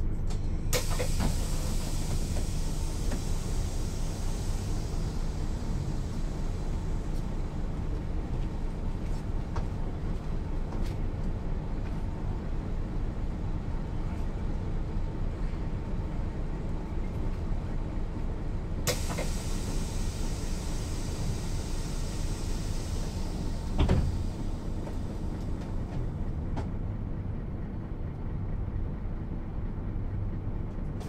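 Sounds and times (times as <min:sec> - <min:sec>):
diesel bus engine and road noise: 0:00.0 - 0:31.0.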